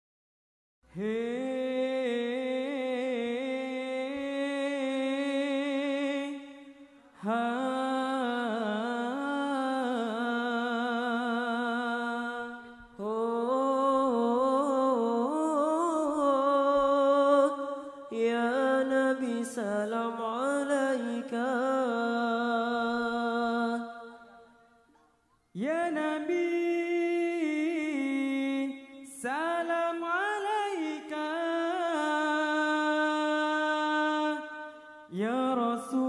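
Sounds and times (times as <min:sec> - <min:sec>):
young man singing unaccompanied: 0:00.9 - 0:24.5, 0:25.5 - 0:36.0.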